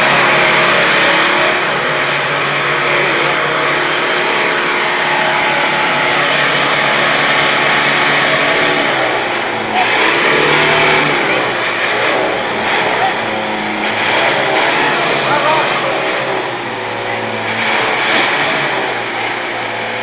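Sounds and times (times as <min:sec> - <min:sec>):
motorbike passing: 0:00.0 - 0:20.0
people's voices: 0:00.0 - 0:20.0
truck engines running: 0:00.0 - 0:20.0.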